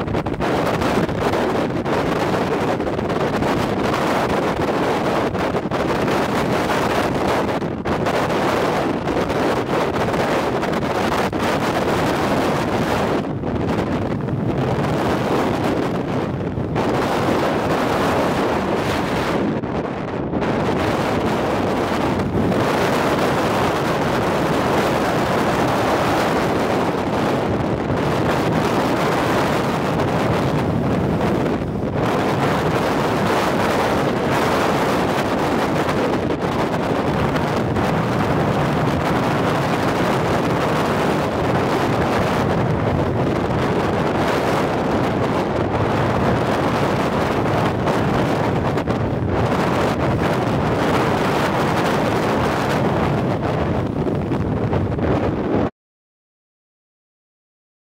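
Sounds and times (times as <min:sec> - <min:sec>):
strong wind on microphone: 0:00.0 - 0:55.7.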